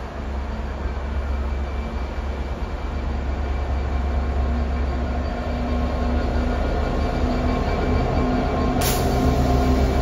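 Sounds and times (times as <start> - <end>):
diesel locomotive rumbling: 0.0 - 10.0.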